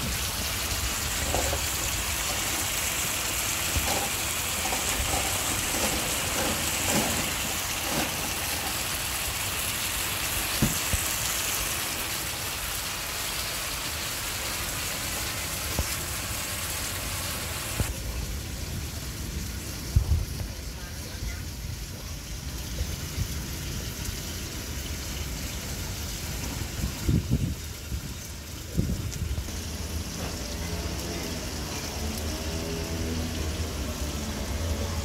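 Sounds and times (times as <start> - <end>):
food sizzling in a wok: 0.0 - 35.0.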